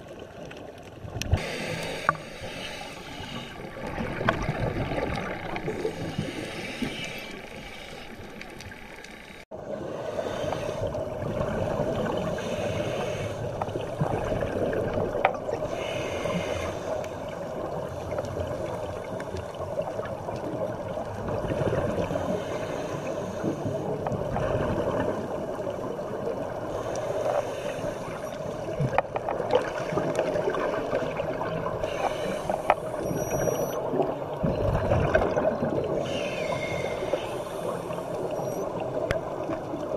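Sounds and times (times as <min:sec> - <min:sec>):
scuba regulator bubbles: 0:00.0 - 0:39.9.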